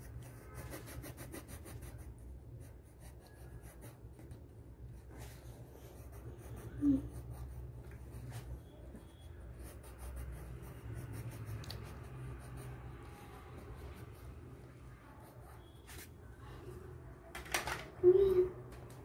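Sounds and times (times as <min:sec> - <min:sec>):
coloured pencil scratching on paper: 0:00.0 - 0:16.2.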